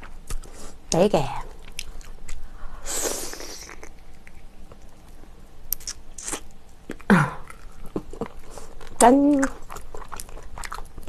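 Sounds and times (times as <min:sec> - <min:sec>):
person chewing food: 0:00.0 - 0:00.8, 0:01.5 - 0:02.7, 0:03.3 - 0:11.0.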